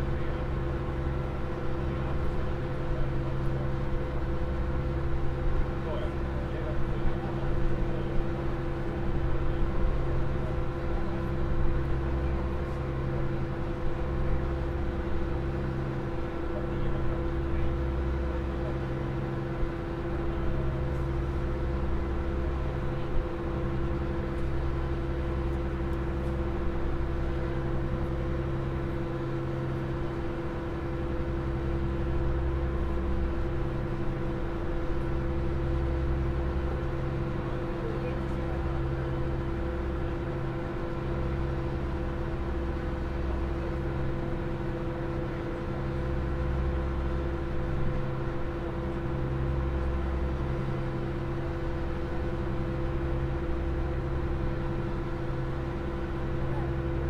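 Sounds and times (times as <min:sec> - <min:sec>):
deep engine rumble: 0:00.0 - 0:57.0
ferry engines humming: 0:00.0 - 0:57.0.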